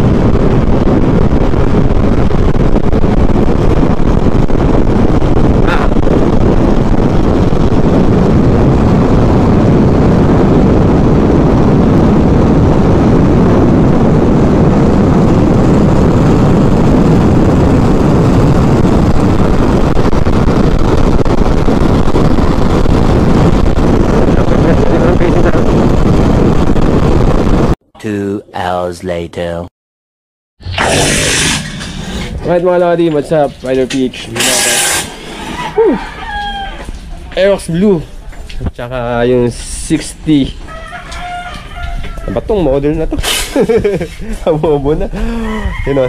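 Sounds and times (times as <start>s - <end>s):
wind rushing over microphone: 0.0s - 27.8s, 30.6s - 46.0s.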